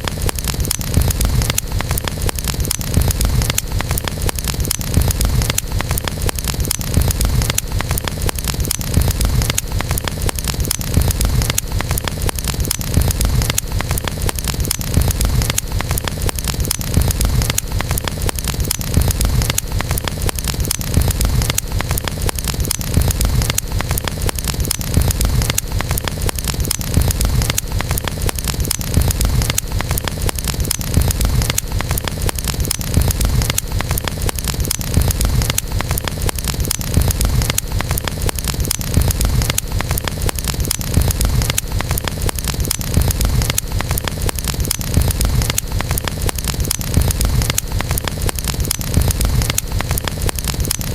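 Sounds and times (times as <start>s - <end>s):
campfire crackling: 0.0s - 50.9s.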